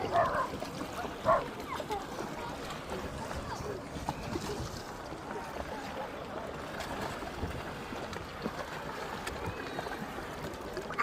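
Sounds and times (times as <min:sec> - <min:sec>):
water and wind rushing: 0:00.0 - 0:11.0.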